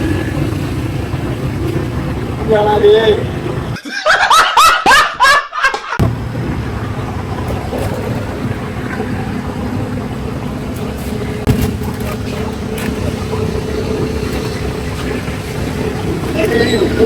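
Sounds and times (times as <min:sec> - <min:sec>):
vehicle engine and road rumble: 0:00.0 - 0:03.8, 0:06.0 - 0:17.0.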